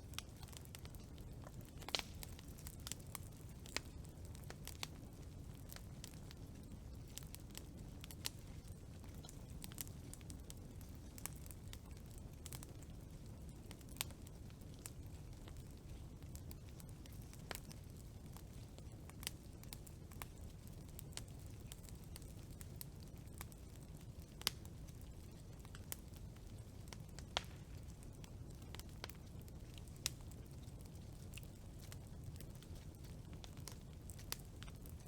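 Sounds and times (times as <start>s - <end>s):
campfire flames rumbling: 0.0s - 35.0s
fire crackling and popping: 0.0s - 35.0s.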